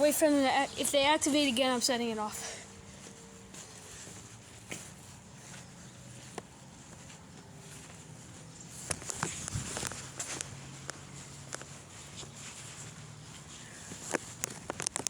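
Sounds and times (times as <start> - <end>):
faint background hum: 0.0 - 14.7.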